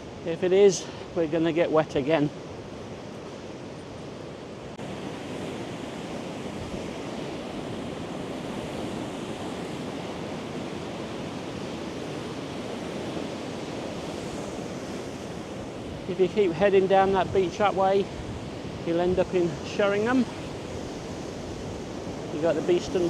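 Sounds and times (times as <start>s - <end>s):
sea surf washing onto beach: 0.0s - 23.0s.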